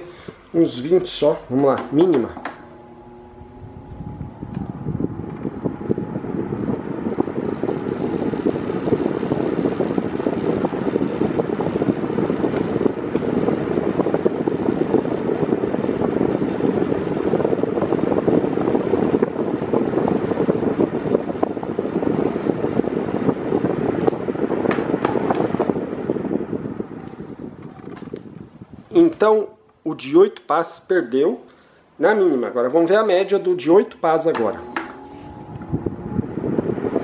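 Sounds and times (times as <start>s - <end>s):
fan airflow rushing: 0.0s - 29.5s, 34.2s - 37.0s.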